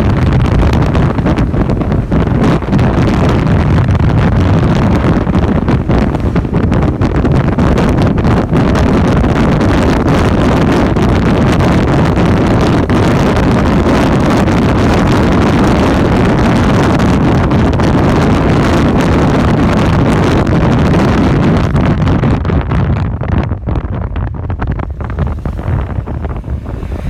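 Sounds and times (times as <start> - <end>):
motorcycle running: 0.0 - 27.0
wind buffeting microphone: 0.0 - 27.0.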